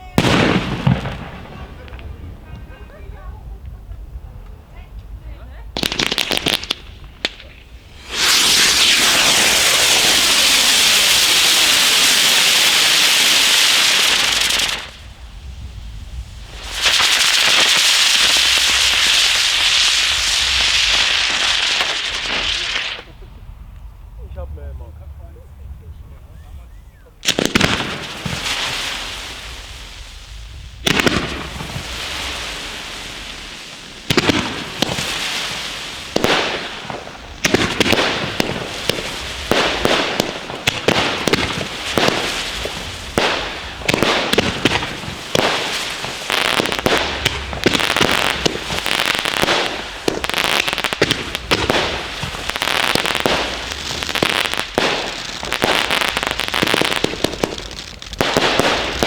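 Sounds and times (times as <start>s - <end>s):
firework bangs: 0.0s - 23.8s, 27.1s - 59.0s
firework crackling: 0.0s - 26.3s, 26.9s - 59.0s.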